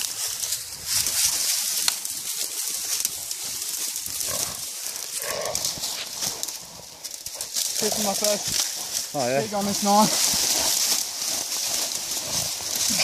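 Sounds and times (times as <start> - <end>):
brush crackling and rustling: 0.0 - 13.0.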